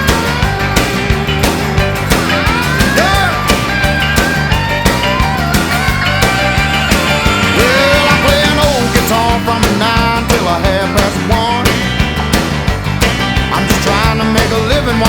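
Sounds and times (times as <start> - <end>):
sliding guitar lines: 0.0 - 15.0
steady drum beat: 0.0 - 15.0
upbeat country music: 0.0 - 15.0.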